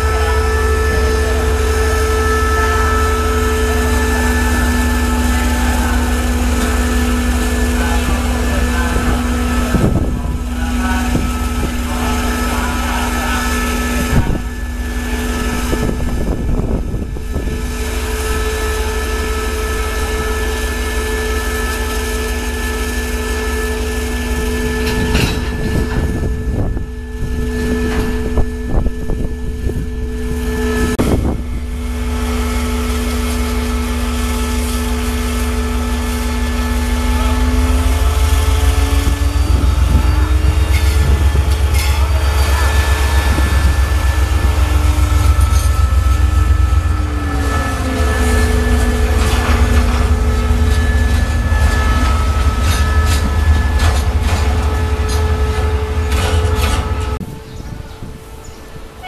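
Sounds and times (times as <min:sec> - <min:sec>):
locomotive engine hum and rumble: 0:00.0 - 0:59.0.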